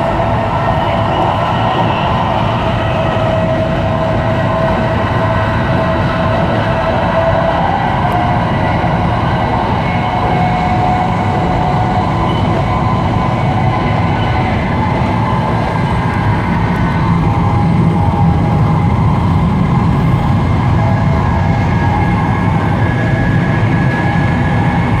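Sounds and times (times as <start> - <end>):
faint whining tones: 0.0 - 25.0
train rumble and rush: 0.0 - 25.0.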